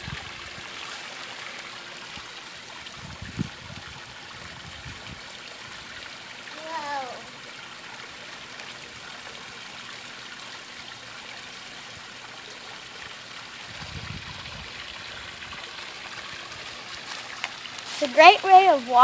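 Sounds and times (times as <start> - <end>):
water trickling onto grass: 0.0 - 19.0.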